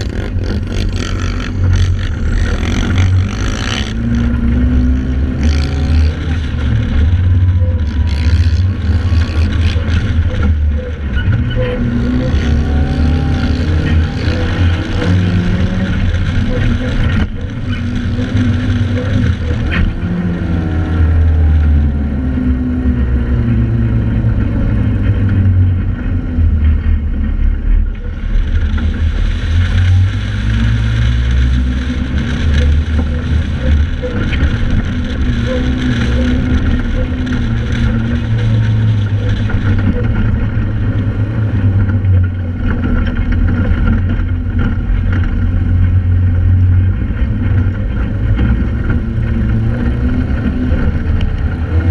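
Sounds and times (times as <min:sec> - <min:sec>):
sand rail engine revving: 0:00.0 - 0:51.9.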